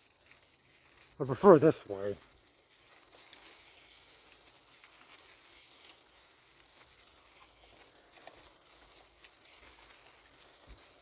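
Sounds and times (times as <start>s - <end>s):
bicycle tyres on dirt trail: 0.0s - 11.0s.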